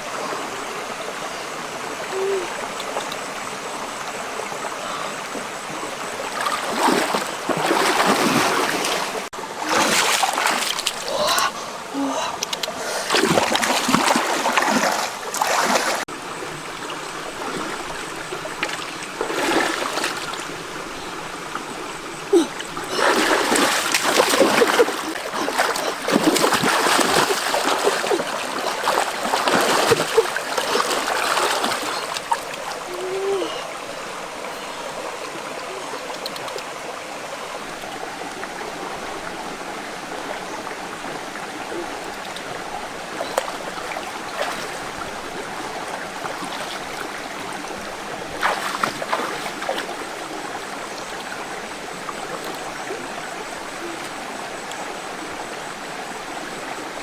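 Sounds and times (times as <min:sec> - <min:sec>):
water splashing: 0:00.0 - 0:39.3, 0:41.0 - 0:53.1
flowing stream: 0:00.0 - 0:57.0.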